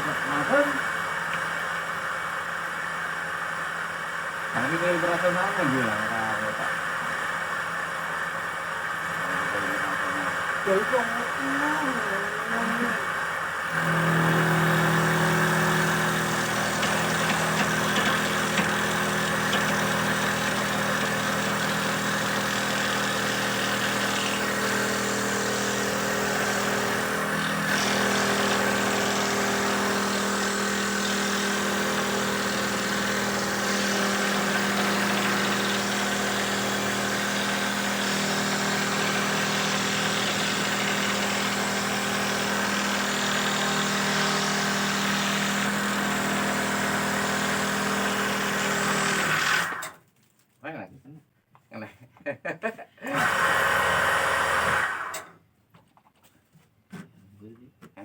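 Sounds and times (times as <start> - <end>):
machine motor humming: 0.0 - 49.9.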